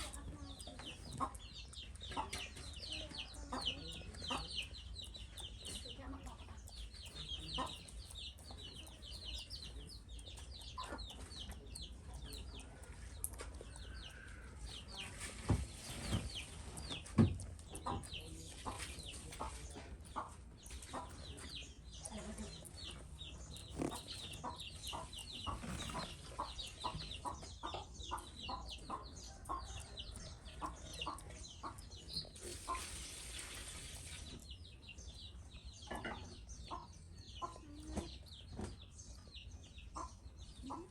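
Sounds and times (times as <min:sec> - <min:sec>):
high bird chirps and clucks: 0:00.0 - 0:40.9.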